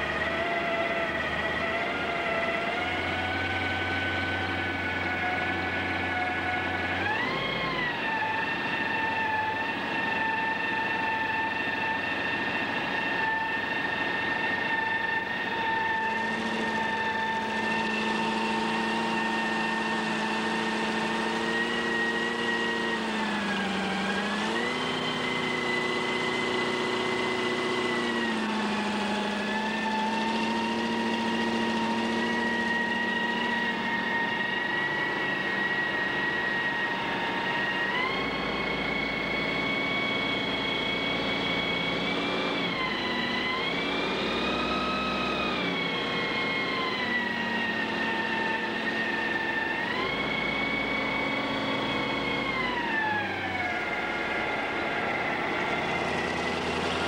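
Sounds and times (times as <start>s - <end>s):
boat engine running at high revs: 0.0s - 57.0s.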